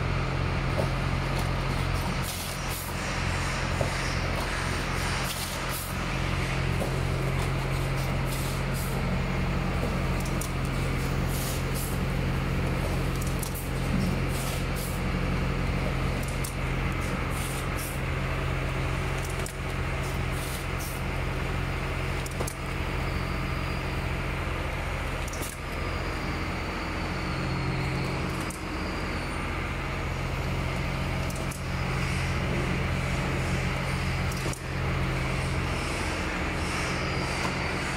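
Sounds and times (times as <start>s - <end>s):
machine low mechanical hum: 0.0s - 37.9s.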